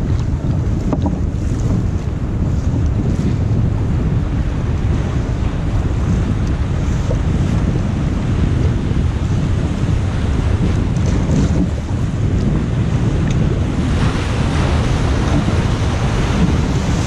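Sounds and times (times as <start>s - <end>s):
water washing around kayak: 0.0s - 17.0s
wind rumbling on microphone: 0.0s - 17.0s.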